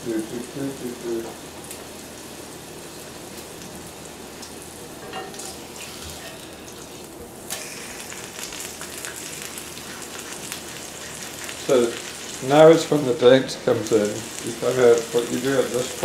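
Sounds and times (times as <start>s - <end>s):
steak sizzling in skillet: 0.4s - 16.0s.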